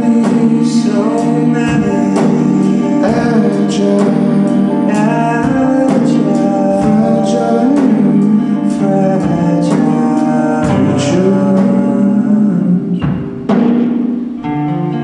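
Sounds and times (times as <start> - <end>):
percussive beat: 0.0 - 12.0
guitar chords: 0.0 - 15.0.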